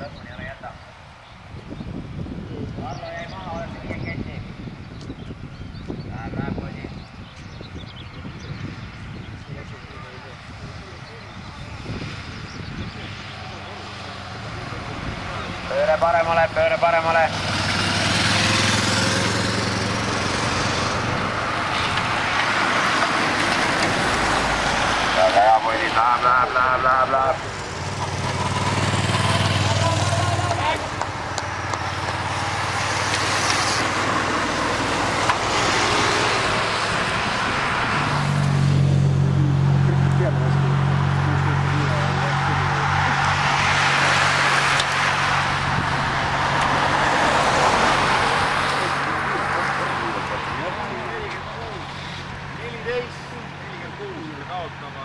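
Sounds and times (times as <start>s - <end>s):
tyre and wind noise: 0.0s - 15.8s, 17.3s - 25.2s, 27.5s - 39.5s, 40.8s - 49.4s
vehicle road noise passing: 0.0s - 55.0s.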